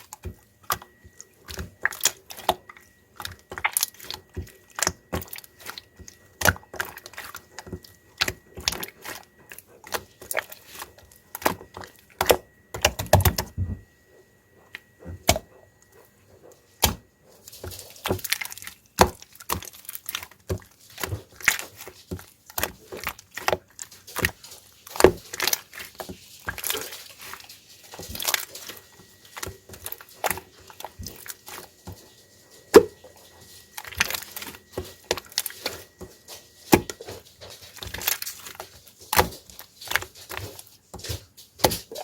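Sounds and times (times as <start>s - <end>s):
slime squelch: 0.0s - 42.0s.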